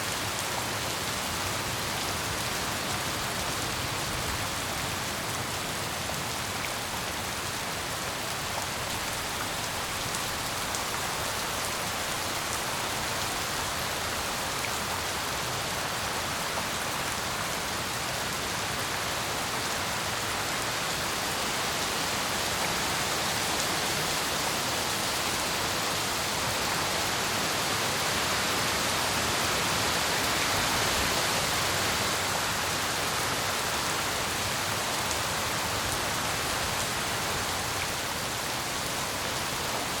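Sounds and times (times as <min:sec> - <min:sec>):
rain hissing on surfaces: 0:00.0 - 0:40.0.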